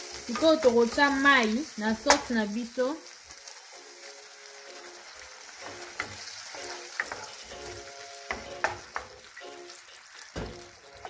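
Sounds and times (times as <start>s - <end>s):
food sizzling and hissing: 0.0s - 11.0s.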